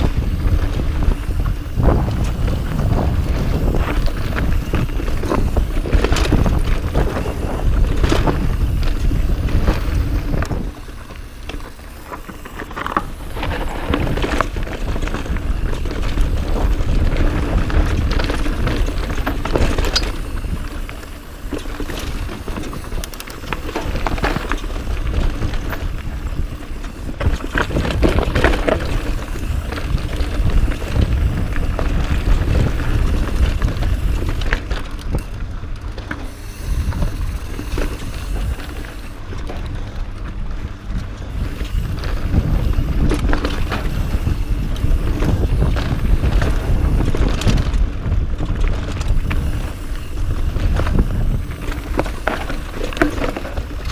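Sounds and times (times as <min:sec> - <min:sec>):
bike knocking and rattling: 0:00.0 - 0:53.9
tyres rolling over dirt and rock: 0:00.0 - 0:53.9
wind buffeting microphone: 0:00.0 - 0:53.9.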